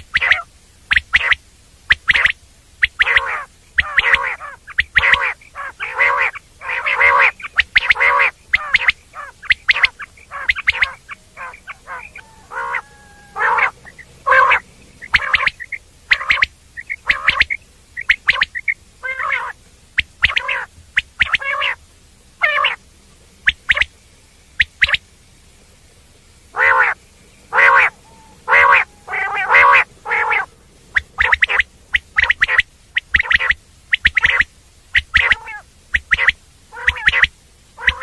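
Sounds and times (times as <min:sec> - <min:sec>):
quail calling: 0:00.0 - 0:25.7, 0:26.4 - 0:38.0.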